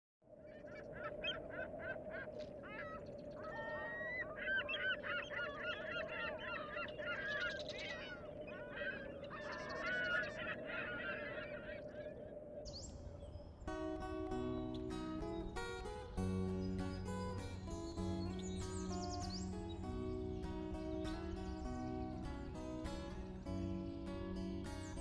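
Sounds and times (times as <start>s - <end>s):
birds chirping and calling: 0.4s - 25.0s.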